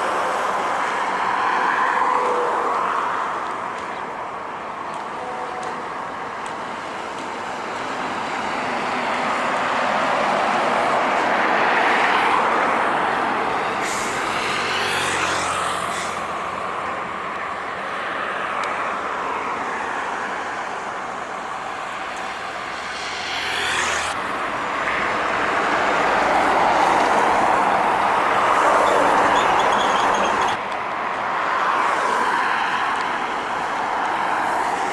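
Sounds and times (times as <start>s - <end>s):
vehicles passing on highway: 0.0s - 34.9s.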